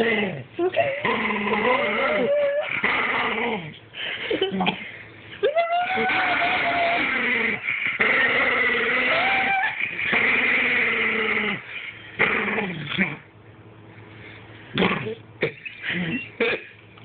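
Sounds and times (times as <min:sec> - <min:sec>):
dog growling and grumbling: 0:00.0 - 0:04.9, 0:06.0 - 0:13.3, 0:14.7 - 0:16.4.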